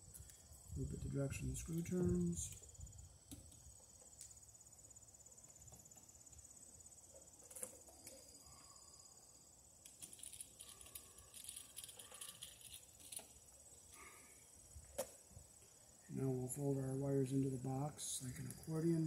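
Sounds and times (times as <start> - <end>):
high trill of insects: 0.0 - 19.0.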